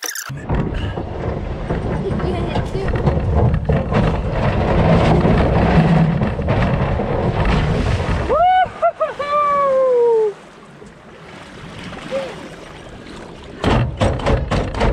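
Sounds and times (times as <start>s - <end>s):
water and wind rushing: 0.0s - 14.9s
boat engine rumble: 0.2s - 14.9s.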